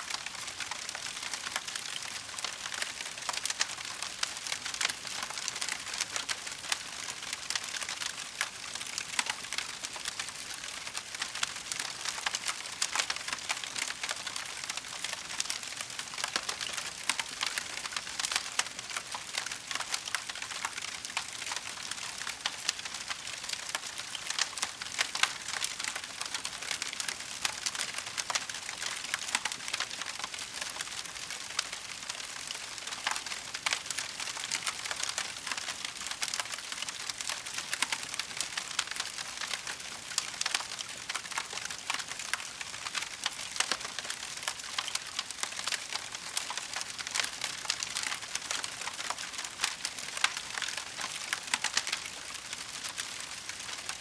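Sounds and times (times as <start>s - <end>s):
wood fire crackling: 0.1s - 54.0s.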